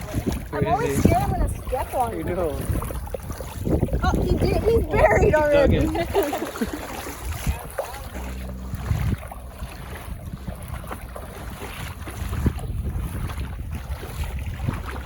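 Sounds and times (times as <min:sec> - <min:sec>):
waves washing on shore: 0:00.0 - 0:15.0
wind buffeting microphone: 0:00.0 - 0:15.0.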